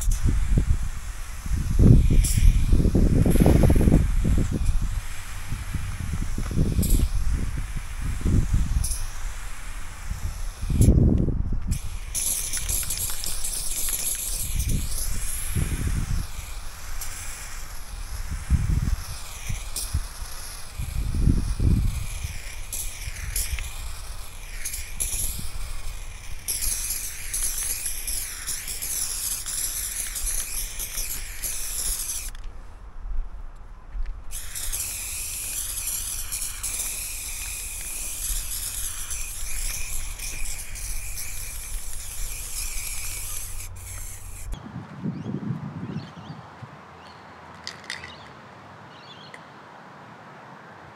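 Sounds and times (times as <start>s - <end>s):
spray paint cans hissing: 0.0s - 32.6s, 34.1s - 44.6s, 47.6s - 48.3s.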